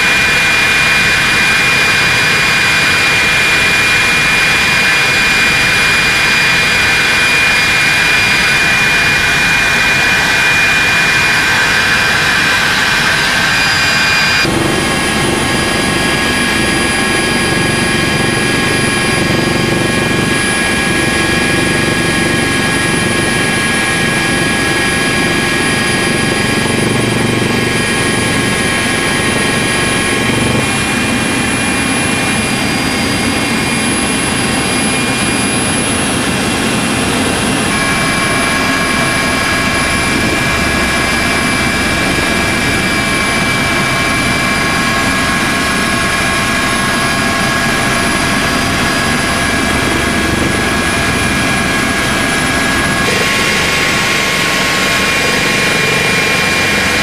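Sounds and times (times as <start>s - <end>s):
helicopter engine and rotor noise: 0.0s - 57.0s
high whining tones: 0.0s - 57.0s.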